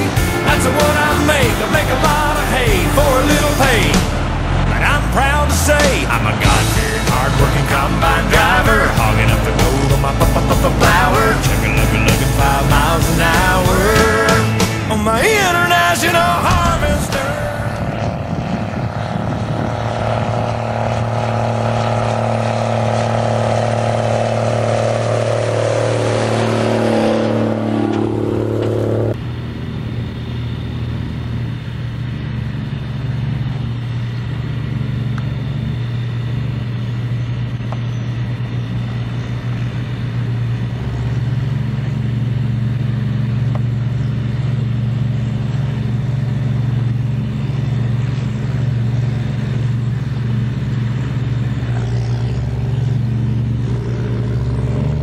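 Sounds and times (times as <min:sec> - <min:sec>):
combine harvester low drone: 0:00.0 - 0:55.0
tractor diesel engine running: 0:00.0 - 0:55.0
faint high whine: 0:06.4 - 0:54.6.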